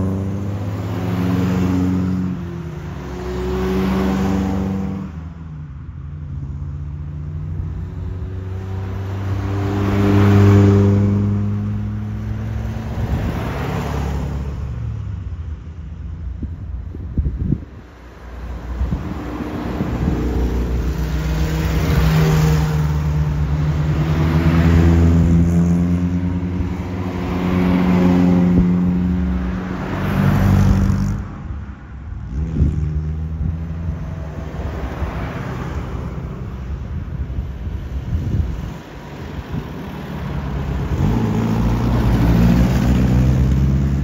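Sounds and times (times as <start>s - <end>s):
cars driving past: 0.0s - 44.0s.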